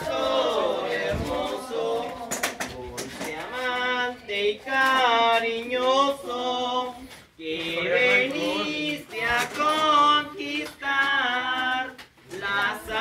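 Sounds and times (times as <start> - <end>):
group singing a hymn: 0.0 - 13.0.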